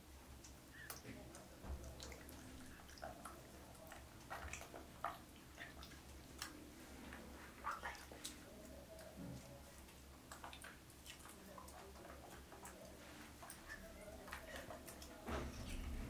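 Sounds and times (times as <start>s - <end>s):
water drips and movement: 0.0s - 16.0s
monkey eating wet clicks: 0.3s - 16.0s.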